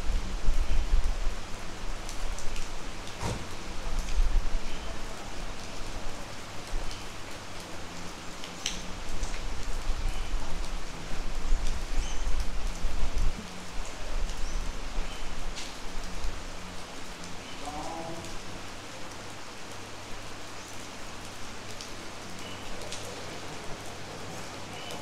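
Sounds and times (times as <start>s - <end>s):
steady rain falling: 0.0s - 25.0s
sharp drips close by: 1.0s - 25.0s.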